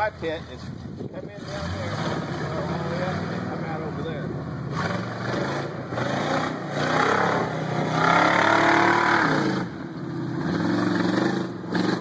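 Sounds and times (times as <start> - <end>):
truck engine revving: 1.2 - 12.0.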